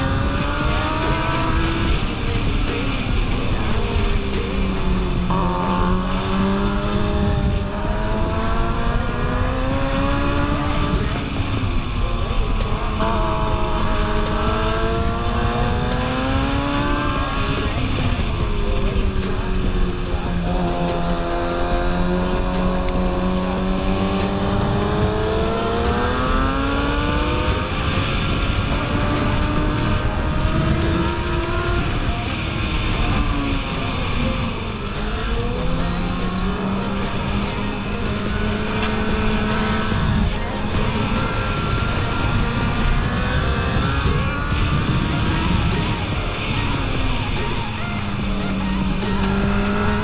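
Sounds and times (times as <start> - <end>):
motorbike engine at speed: 0.0 - 50.0
wind rush over microphone: 0.0 - 50.0.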